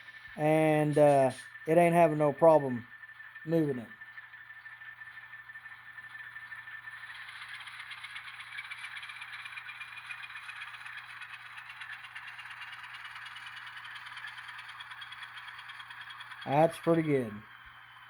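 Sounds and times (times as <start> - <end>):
model locomotive whine: 0.0 - 18.0
wheels hissing on track: 0.0 - 18.0.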